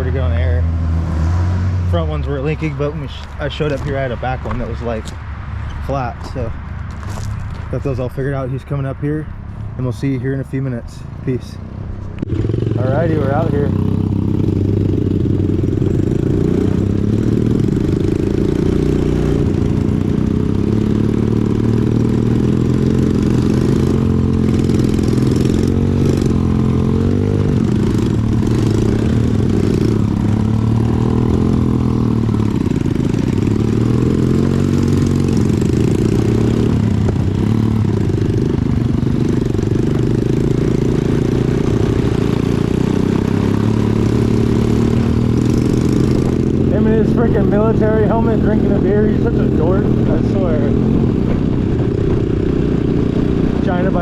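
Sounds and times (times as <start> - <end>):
small off-road engine revving: 0.0 - 5.0, 12.2 - 54.0.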